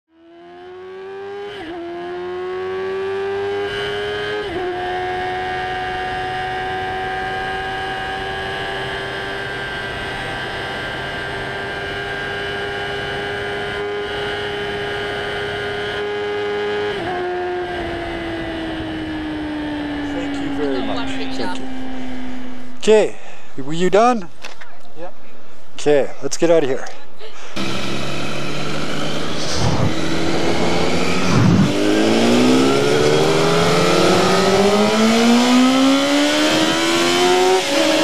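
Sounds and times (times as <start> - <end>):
motorcycle engine revving: 0.1 - 22.8, 27.6 - 38.0.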